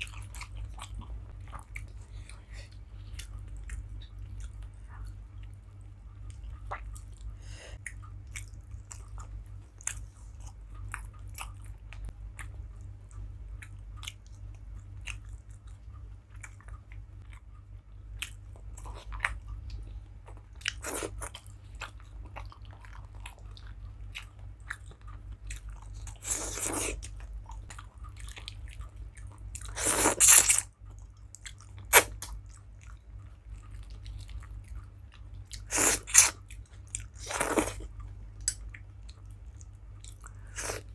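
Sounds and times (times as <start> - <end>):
person chewing: 0.0 - 5.6, 6.2 - 40.9
steady low hum: 0.0 - 40.9.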